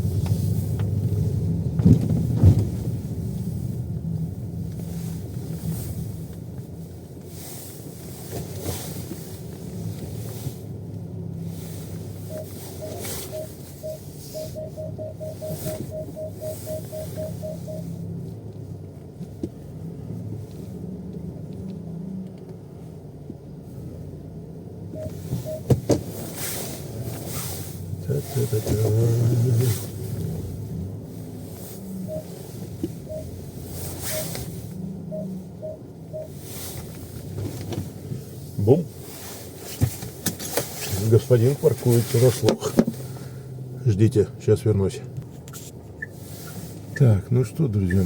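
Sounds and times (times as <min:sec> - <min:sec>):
car cabin low hum: 0:00.0 - 0:48.0.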